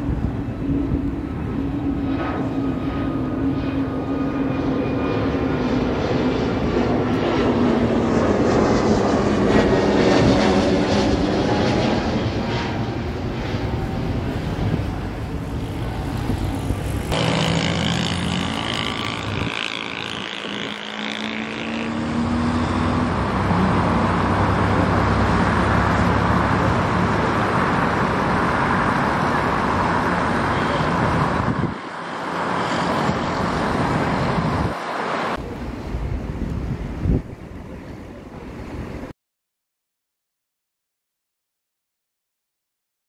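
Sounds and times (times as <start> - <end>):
jet engine roaring: 0.0 - 39.1.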